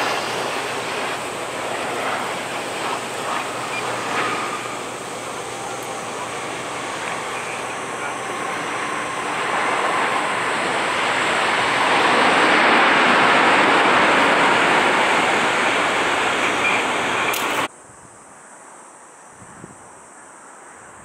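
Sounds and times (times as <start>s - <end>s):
jet plane passing close: 0.0s - 17.7s.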